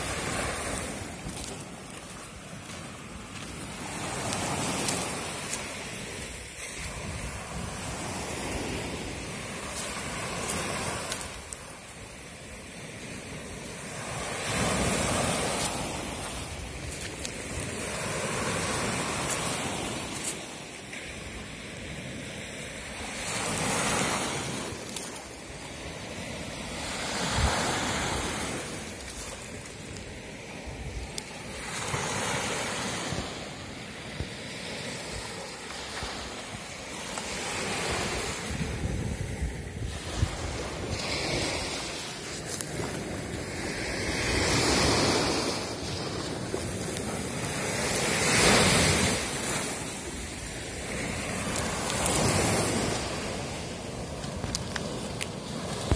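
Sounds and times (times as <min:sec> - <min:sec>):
small waves breaking on shore: 0:00.0 - 0:55.9.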